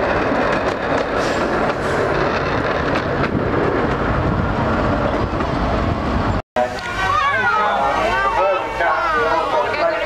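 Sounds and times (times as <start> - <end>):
ride carriages rumbling on track: 0.0 - 10.0.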